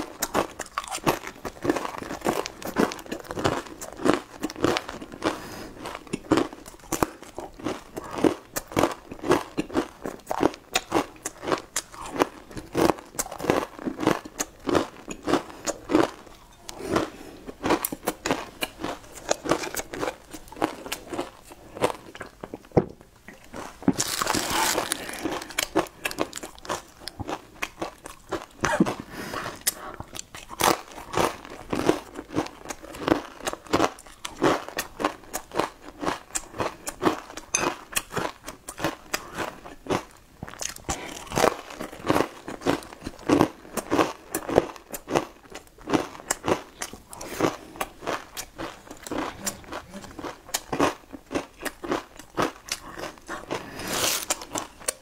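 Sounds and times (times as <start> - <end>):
crunching and chewing flatbread: 0.0 - 55.0.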